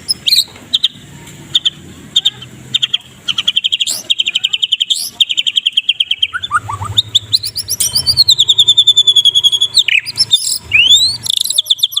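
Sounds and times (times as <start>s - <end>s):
bird singing trills: 0.0s - 12.0s.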